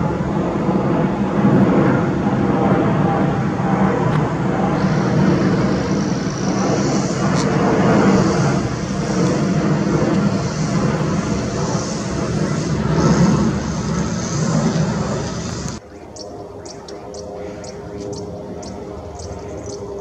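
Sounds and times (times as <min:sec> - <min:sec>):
jet engine hiss: 0:00.0 - 0:20.0
jet engines low rumble: 0:00.0 - 0:20.0.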